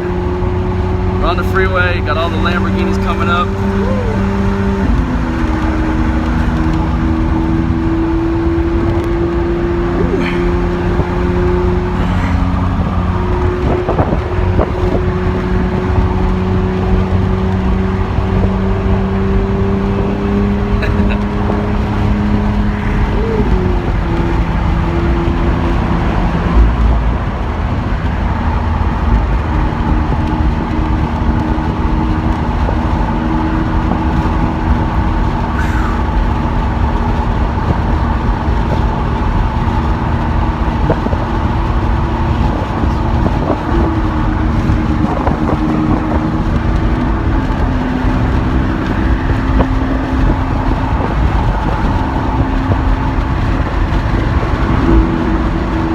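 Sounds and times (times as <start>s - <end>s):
car engine cruising: 0.0s - 55.9s
low road rumble: 0.0s - 55.9s.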